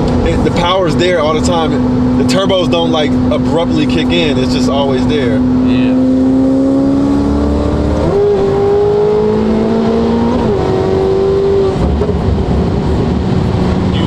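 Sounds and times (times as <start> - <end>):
car engine accelerating hard: 0.0 - 14.0
road and wind noise: 0.0 - 14.0.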